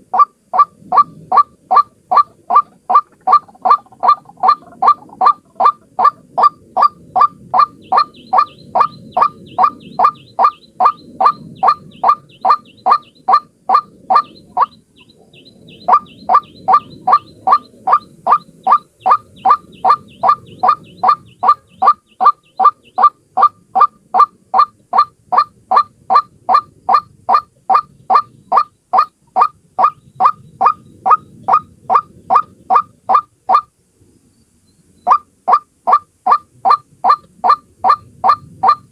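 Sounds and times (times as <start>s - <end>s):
waterhen calling: 0.0s - 33.7s, 35.1s - 38.9s.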